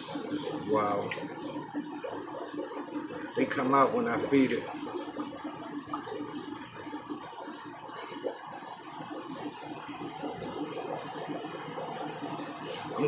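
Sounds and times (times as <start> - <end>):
aquarium pump hum: 0.0 - 13.0
faint bubbling water: 0.0 - 13.0.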